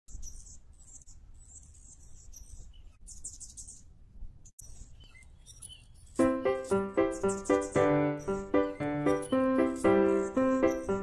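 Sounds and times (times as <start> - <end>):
hummingbird chirps and twitters: 0.1 - 3.9, 4.6 - 11.0.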